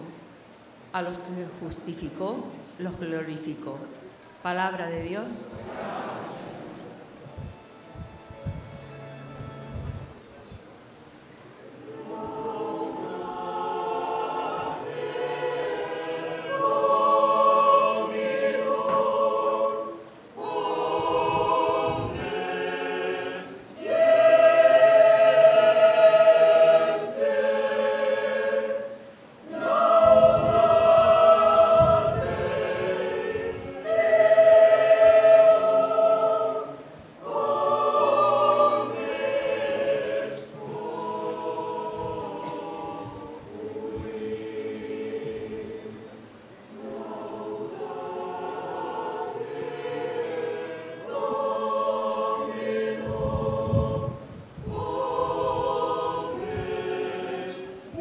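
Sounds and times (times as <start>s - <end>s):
church choir singing: 5.4s - 10.6s, 11.6s - 58.0s.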